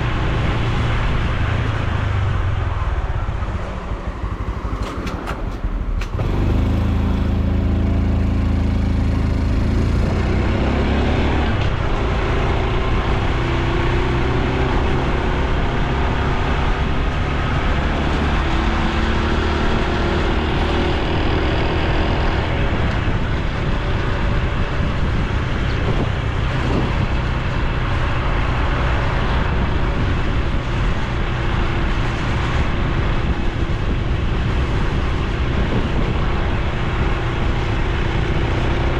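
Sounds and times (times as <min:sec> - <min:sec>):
road and wind noise: 0:00.0 - 0:38.9
motorcycle engine accelerating: 0:01.8 - 0:38.9.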